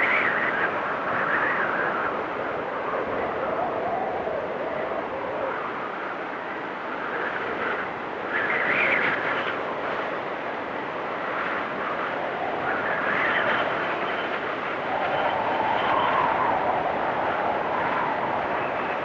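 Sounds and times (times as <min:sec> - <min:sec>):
blizzard wind gusts: 0:00.0 - 0:19.0.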